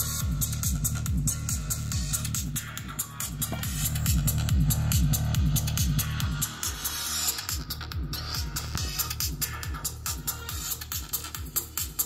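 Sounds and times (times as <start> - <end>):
electronic music through loudspeakers: 0.0 - 12.0.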